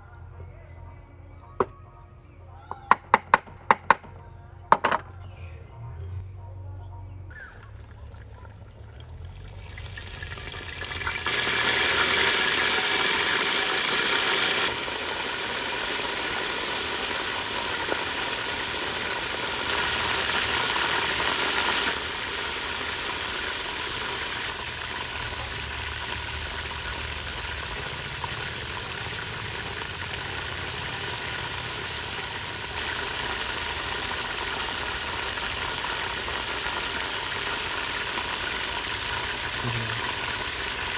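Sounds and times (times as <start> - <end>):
water boiling in a pot: 7.9 - 40.9.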